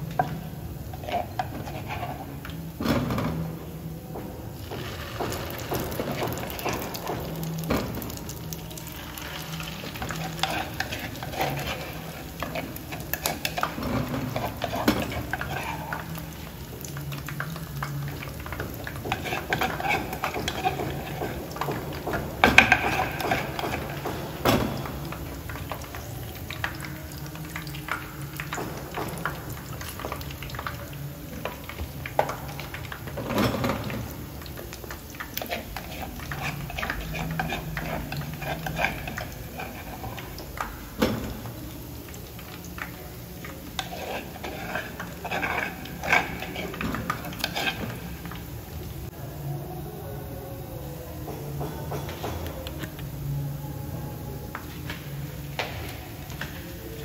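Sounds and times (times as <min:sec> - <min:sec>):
oil sizzling and crackling: 0:00.0 - 0:49.5.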